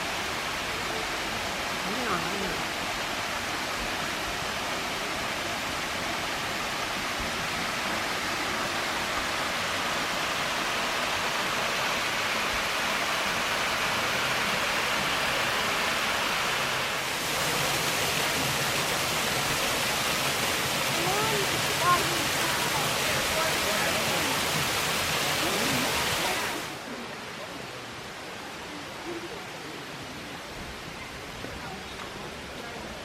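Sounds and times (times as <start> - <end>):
flowing water rushing: 0.0 - 33.0.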